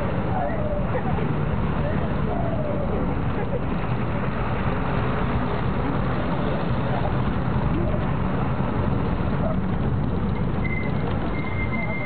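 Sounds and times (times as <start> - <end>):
vehicle driving on dirt road: 0.0 - 12.0.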